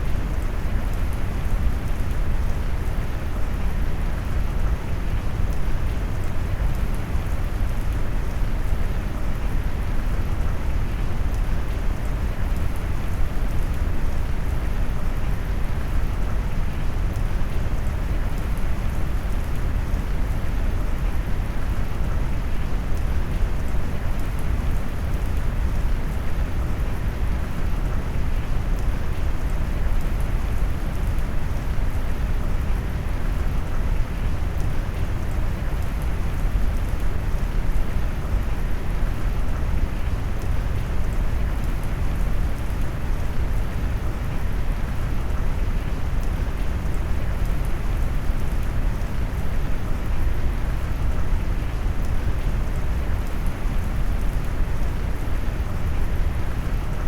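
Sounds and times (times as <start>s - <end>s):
rain: 0.0s - 57.0s.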